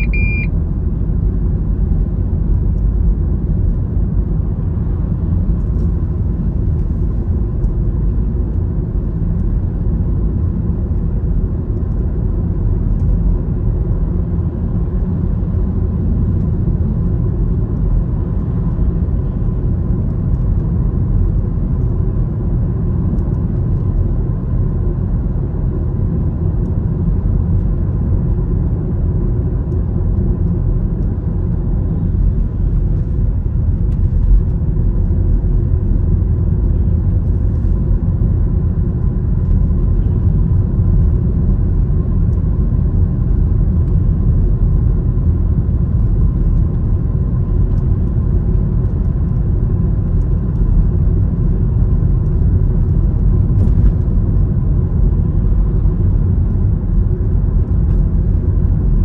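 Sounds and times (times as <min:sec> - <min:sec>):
road vehicle engine and tyre rumble: 0:00.0 - 0:59.0.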